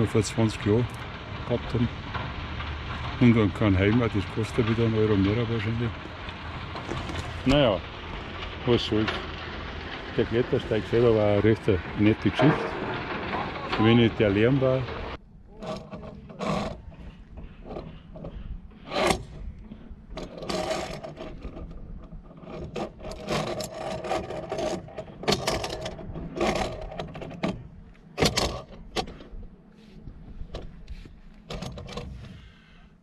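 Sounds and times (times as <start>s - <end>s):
climbing gear scraping on steel: 0.0s - 33.0s.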